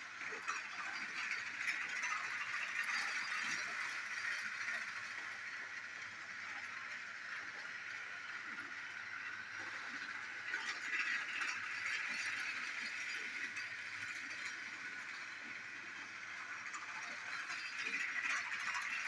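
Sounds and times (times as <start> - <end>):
toy train motor whirring: 0.0 - 19.0
wheels clicking on track: 0.0 - 19.0.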